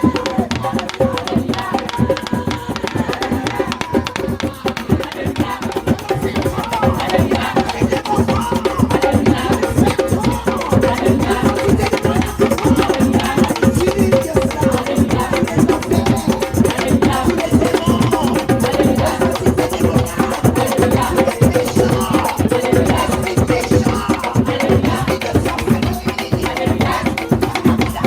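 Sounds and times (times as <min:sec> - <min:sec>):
music with percussion beat: 0:00.0 - 0:28.0.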